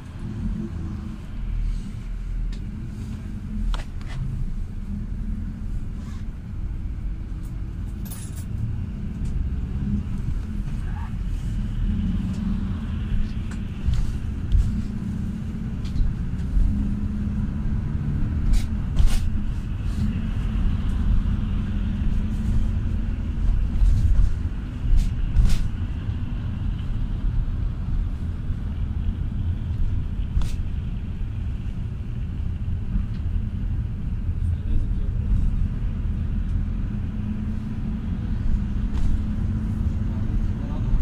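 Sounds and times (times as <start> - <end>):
minibus engine drone: 0.0 - 41.0
tyres on the road: 0.0 - 41.0.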